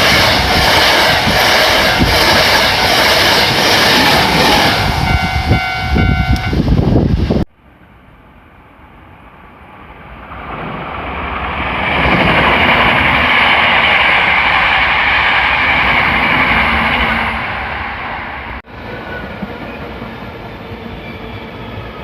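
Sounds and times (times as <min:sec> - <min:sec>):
train passing with rumbling: 0:00.0 - 0:22.0.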